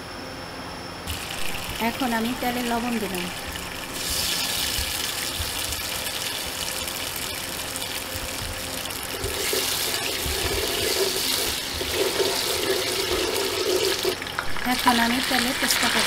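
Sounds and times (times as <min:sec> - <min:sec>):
oil sizzling in a pot: 0:01.1 - 0:16.0.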